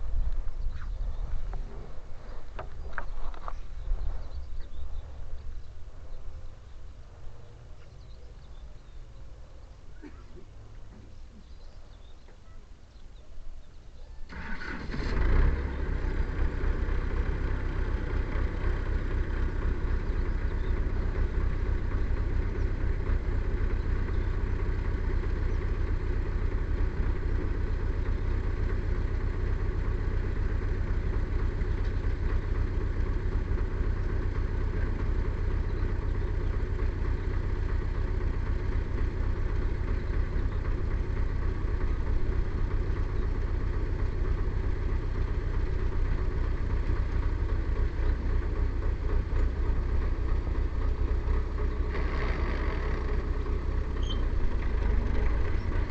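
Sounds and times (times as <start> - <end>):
engine starting and running: 0.0 - 4.7, 14.2 - 55.9.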